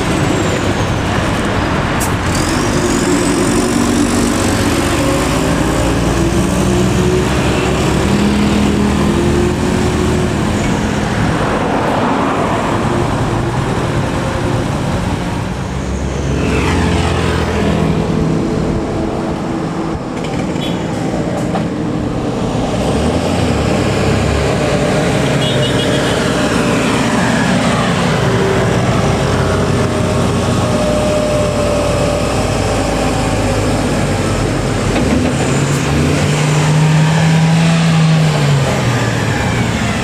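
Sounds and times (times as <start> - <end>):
traffic noise: 0.0 - 40.0.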